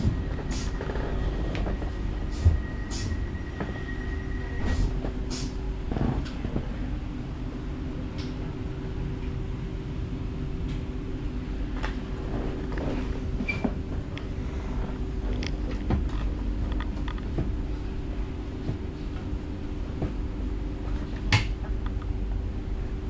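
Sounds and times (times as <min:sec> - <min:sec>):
train interior rumble and hum: 0:00.0 - 0:23.0.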